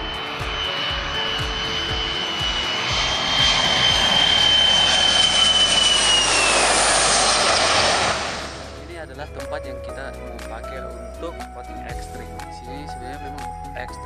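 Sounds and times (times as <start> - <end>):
jet airliner passing low: 0.0 - 14.0.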